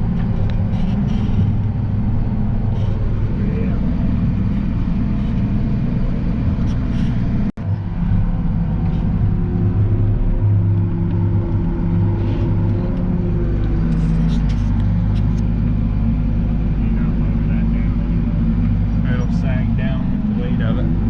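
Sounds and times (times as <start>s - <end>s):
steady hum: 0.0s - 21.0s
truck engine running under load: 0.0s - 21.0s.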